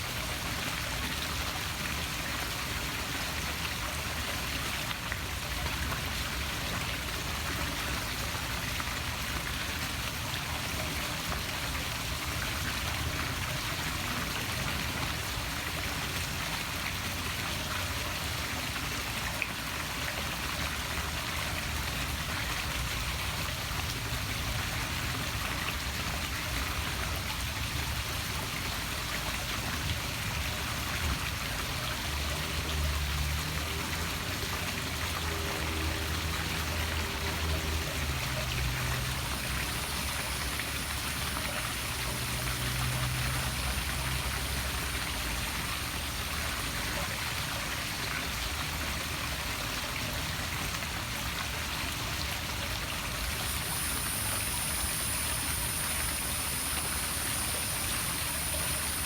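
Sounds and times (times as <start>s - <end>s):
waterfall splashing into pool: 0.0s - 59.0s.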